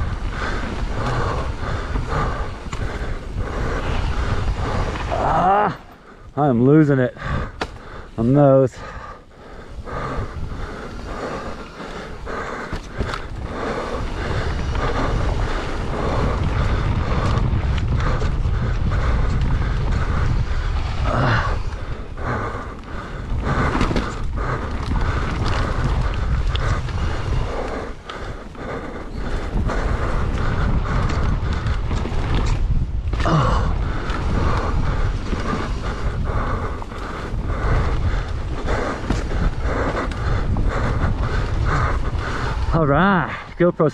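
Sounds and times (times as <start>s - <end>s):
wind on microphone: 0.0s - 43.9s.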